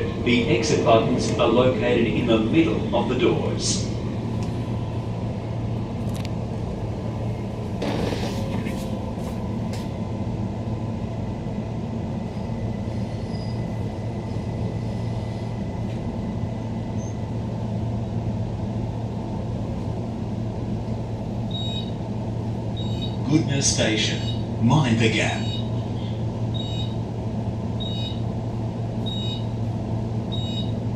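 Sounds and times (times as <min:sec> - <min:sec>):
train interior rumble and hum: 0:00.0 - 0:30.9.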